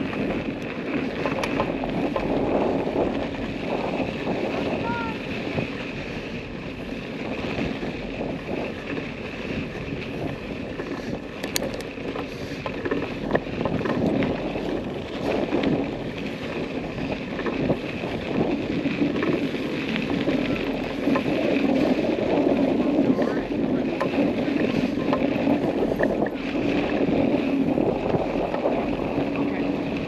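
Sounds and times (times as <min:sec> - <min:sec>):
off-road vehicle running: 0:00.0 - 0:30.0
wind buffeting microphone: 0:00.0 - 0:30.0.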